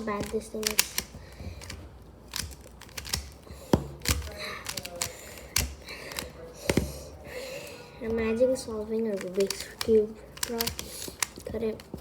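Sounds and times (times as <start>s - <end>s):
puzzle cube plastic clacks: 0.0s - 7.0s, 9.0s - 12.0s.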